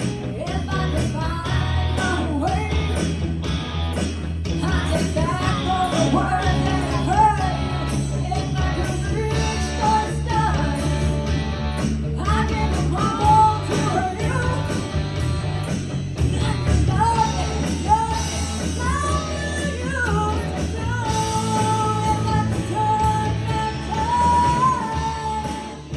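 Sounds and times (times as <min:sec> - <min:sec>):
person singing: 0:00.0 - 0:03.0, 0:04.6 - 0:11.5, 0:12.2 - 0:15.1, 0:16.3 - 0:25.9
bass line: 0:00.0 - 0:25.9
rock band playing live: 0:00.0 - 0:25.9.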